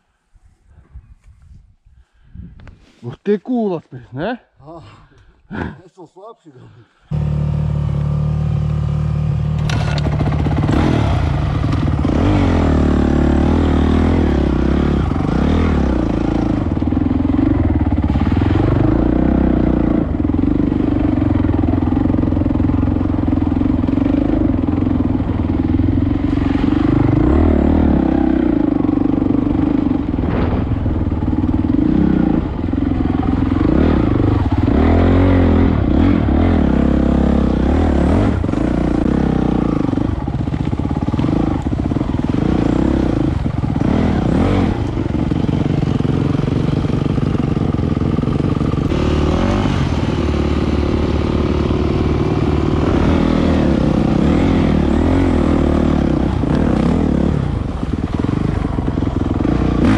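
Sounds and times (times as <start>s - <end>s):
motorbike engine revving: 7.1s - 59.9s.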